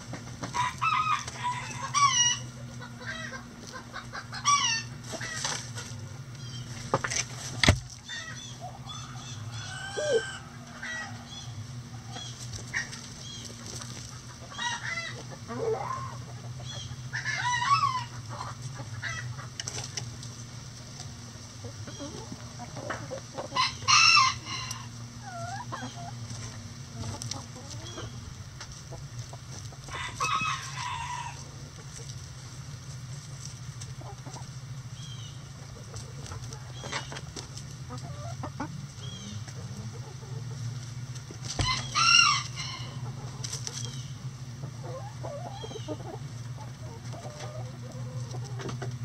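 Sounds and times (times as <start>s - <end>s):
chickens clucking and squawking: 0.0s - 49.0s
steady low hum: 0.0s - 49.0s.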